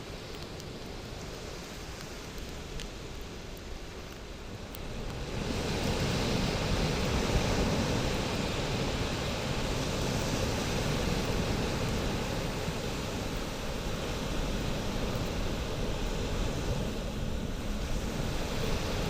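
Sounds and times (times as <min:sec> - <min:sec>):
bonfire flames roaring: 0:00.0 - 0:19.0.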